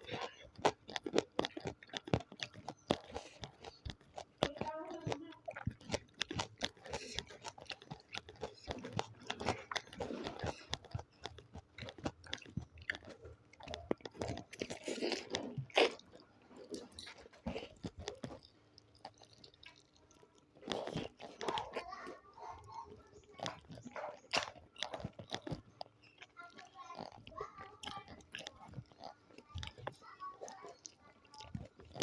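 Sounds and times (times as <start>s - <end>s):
crunchy bites: 0.0s - 32.0s
wet chewing: 0.0s - 32.0s.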